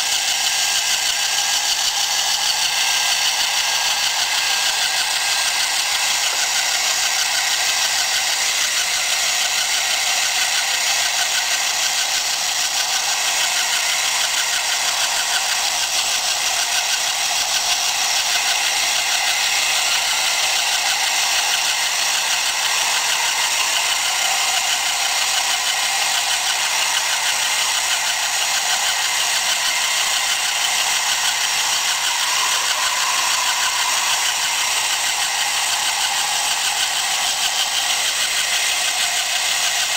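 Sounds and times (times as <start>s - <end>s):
small electric gear motor running: 0.0s - 39.9s.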